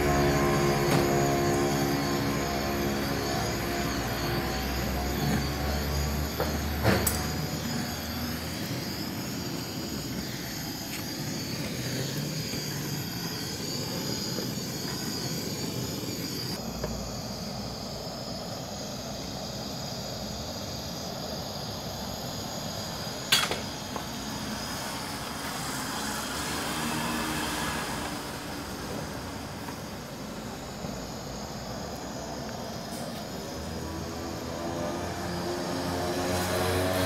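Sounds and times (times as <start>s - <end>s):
gas torch hissing: 0.0s - 37.0s.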